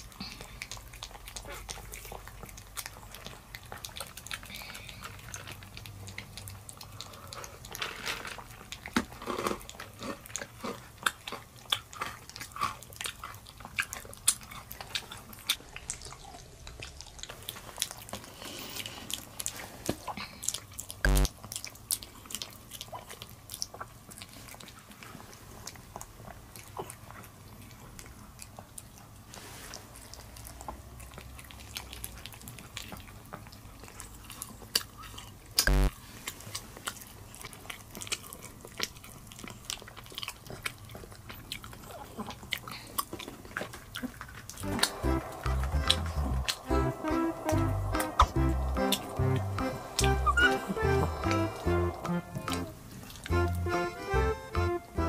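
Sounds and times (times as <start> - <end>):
dog licking and chewing: 0.0 - 46.7.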